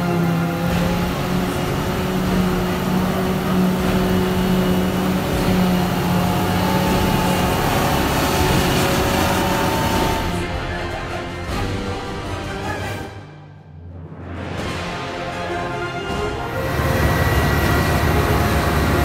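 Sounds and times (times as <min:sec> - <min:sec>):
harvester engine and chopper drone: 0:00.0 - 0:12.5, 0:14.6 - 0:19.0.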